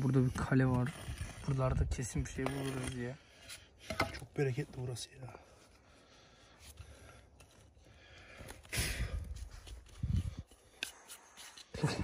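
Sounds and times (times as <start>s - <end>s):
hands scraping gravelly soil: 0.0s - 12.0s.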